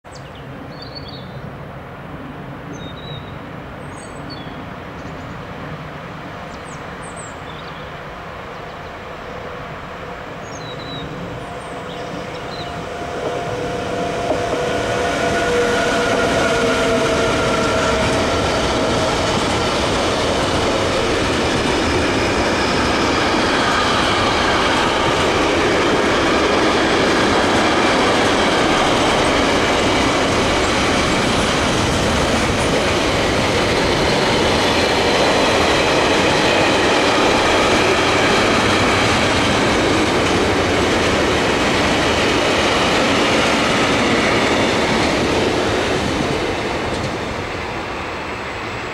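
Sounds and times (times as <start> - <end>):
freight train wheels on rail: 1.4 - 48.9.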